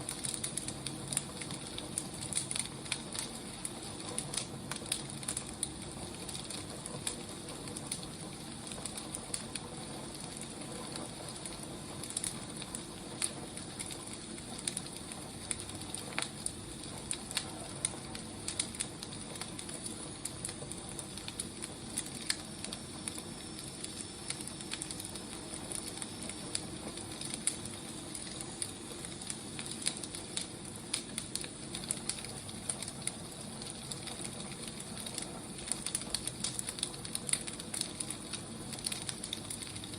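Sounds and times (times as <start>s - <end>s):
fire crackling and popping: 0.0s - 39.9s
fire hissing: 0.0s - 39.9s.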